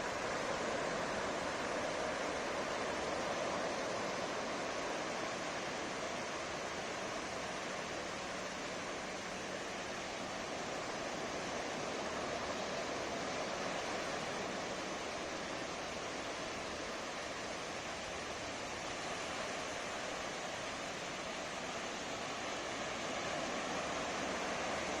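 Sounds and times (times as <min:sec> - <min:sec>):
ocean waves washing up a beach: 0:00.0 - 0:25.0.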